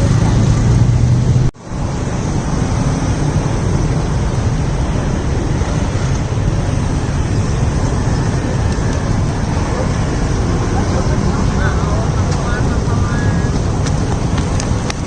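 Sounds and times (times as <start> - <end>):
loud low outdoor rumble: 0.0 - 15.0.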